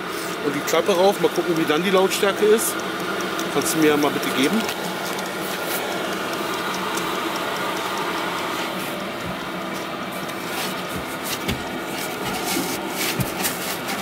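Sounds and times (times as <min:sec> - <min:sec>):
heater blower whirring: 0:00.0 - 0:14.0.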